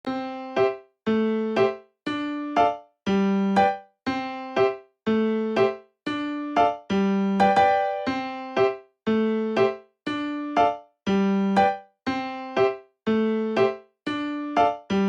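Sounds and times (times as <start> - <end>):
electric piano repeating phrase: 0.0 - 15.0.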